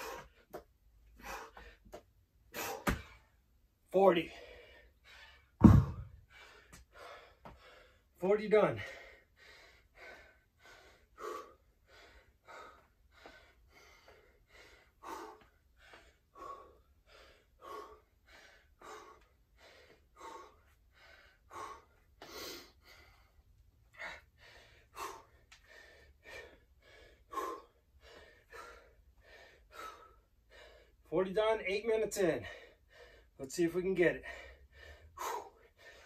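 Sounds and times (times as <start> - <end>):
man breathing hard: 0.0 - 3.4, 4.2 - 31.1, 32.2 - 33.4, 34.0 - 36.0.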